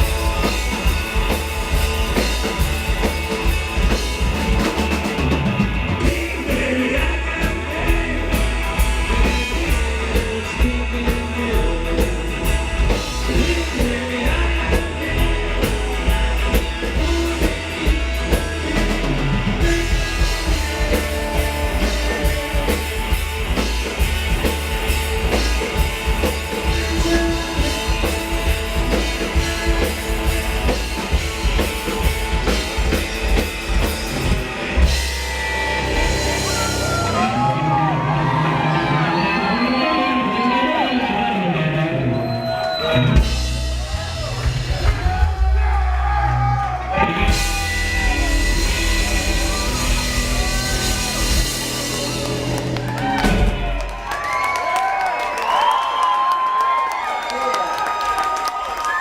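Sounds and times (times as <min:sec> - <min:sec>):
live rock band playing: 0:00.0 - 0:55.3.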